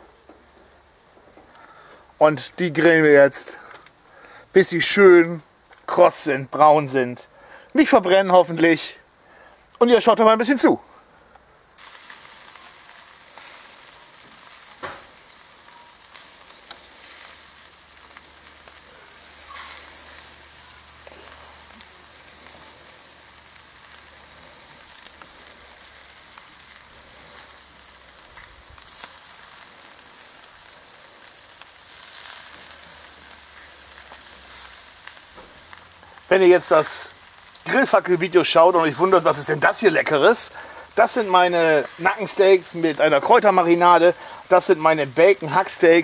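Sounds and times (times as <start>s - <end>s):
meat sizzling on a grill: 0.0s - 10.6s, 11.6s - 46.0s.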